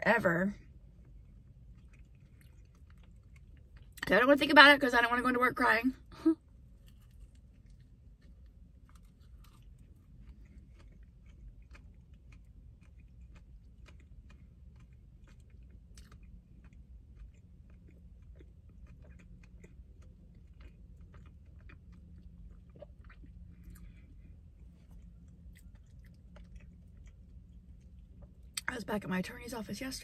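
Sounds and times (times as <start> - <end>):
low steady hum: 0.0 - 30.0
person chewing: 0.8 - 4.0, 6.5 - 28.7.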